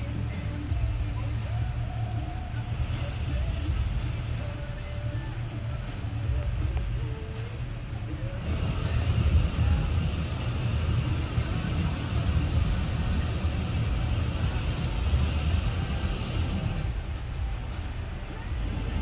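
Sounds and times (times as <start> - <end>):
propane burner blast hissing: 0.0 - 19.0.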